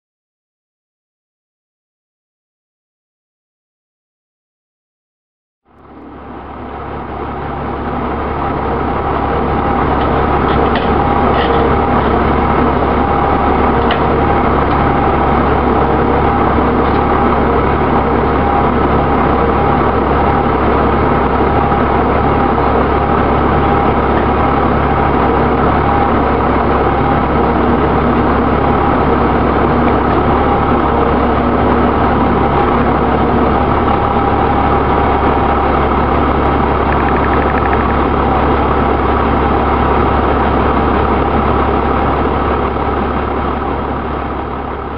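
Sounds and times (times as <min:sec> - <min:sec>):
heavy engine idling: 0:05.7 - 0:44.9.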